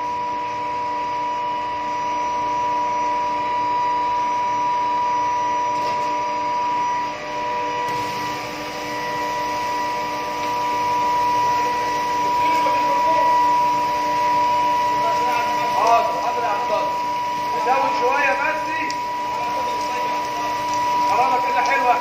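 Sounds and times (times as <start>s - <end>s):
steady electrical whine: 0.0s - 22.0s.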